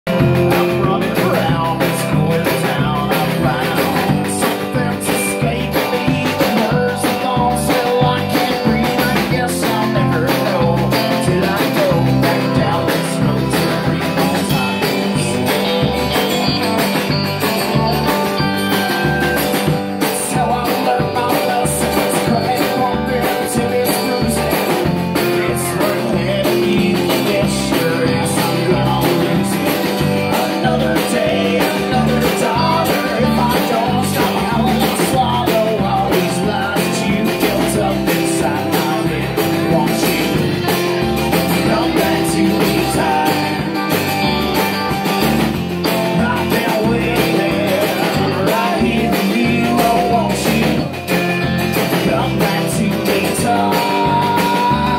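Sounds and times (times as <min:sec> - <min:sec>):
live rock band playing: 0:00.0 - 0:54.9
man singing: 0:00.1 - 0:44.8, 0:45.8 - 0:54.9
drum kit beat: 0:00.1 - 0:54.9.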